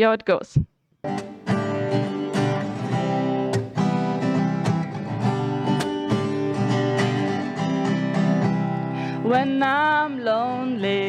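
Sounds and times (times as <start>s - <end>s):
acoustic guitar strumming: 1.0s - 11.0s.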